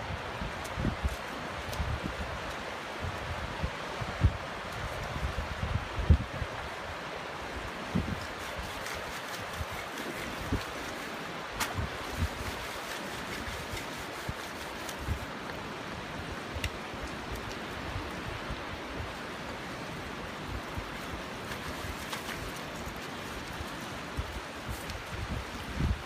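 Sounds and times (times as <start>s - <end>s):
sea surf washing over sand: 0.0s - 26.0s.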